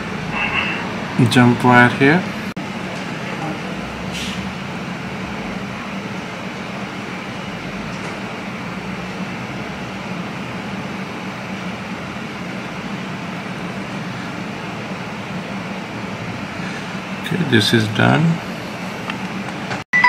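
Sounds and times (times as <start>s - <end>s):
fan humming: 0.0s - 19.9s.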